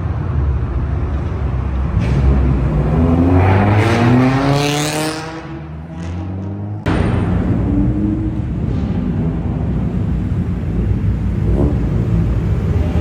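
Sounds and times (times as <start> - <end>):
car engine revving with loud exhaust: 0.0 - 13.0.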